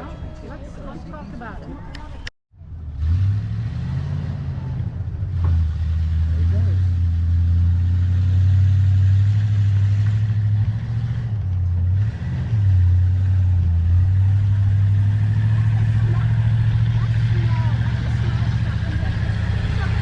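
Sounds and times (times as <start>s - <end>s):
truck engine droning: 1.9s - 20.0s.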